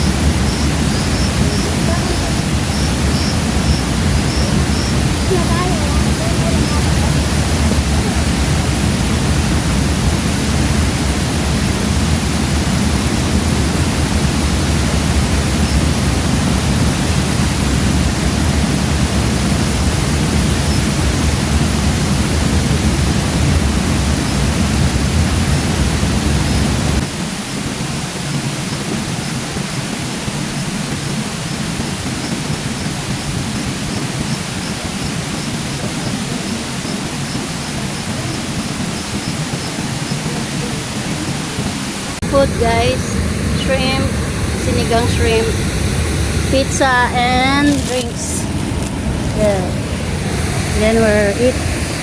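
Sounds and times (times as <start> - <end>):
river and waterfall rushing: 0.0 - 52.0.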